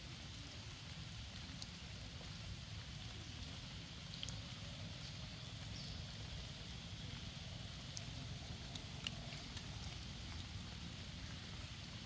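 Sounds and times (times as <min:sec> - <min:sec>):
drip ticks: 0:00.0 - 0:12.0
rain on paving and leaves: 0:00.0 - 0:12.0.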